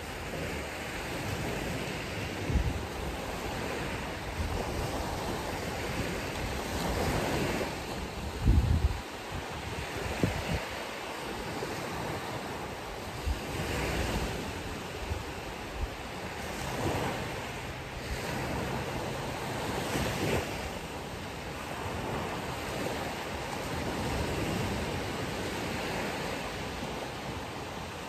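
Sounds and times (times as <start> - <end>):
ocean waves breaking on beach: 0.0 - 28.0
wind buffeting microphone: 0.0 - 28.0.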